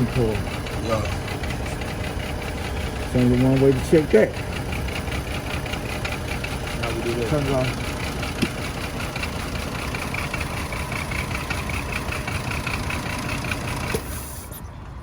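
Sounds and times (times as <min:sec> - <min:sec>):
car engine idling with misfire: 0:00.0 - 0:15.0.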